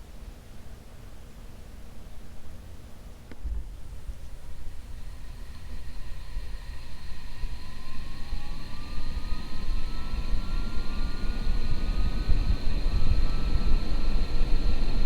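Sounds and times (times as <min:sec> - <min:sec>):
ceiling fan motor whine: 0:00.0 - 0:15.0.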